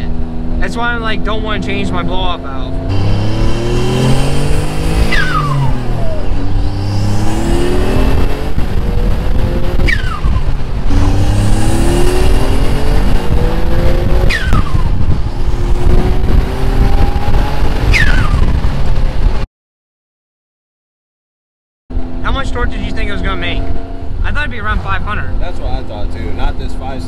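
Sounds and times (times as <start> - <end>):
car engine accelerating hard: 0.0 - 19.4, 21.9 - 27.0.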